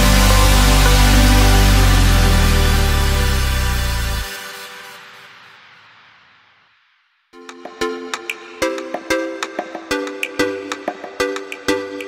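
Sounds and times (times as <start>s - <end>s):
electronic background music: 0.0s - 5.8s, 7.4s - 12.0s.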